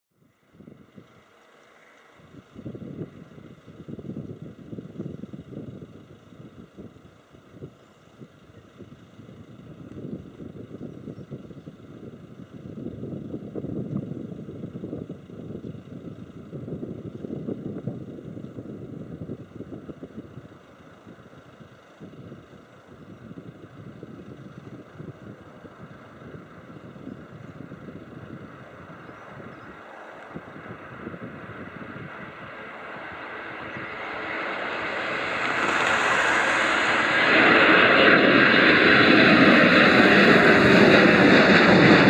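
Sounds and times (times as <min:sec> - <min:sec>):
distant jet engines rumbling: 0:00.3 - 0:42.0.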